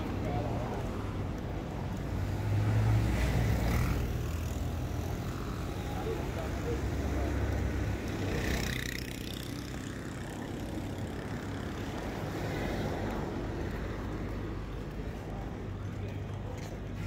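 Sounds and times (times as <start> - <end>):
vehicles rumbling: 0.0 - 17.0.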